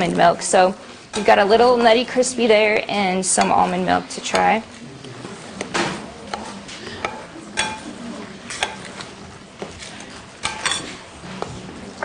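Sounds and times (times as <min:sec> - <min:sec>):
utensil stirring batter: 0:00.0 - 0:12.0.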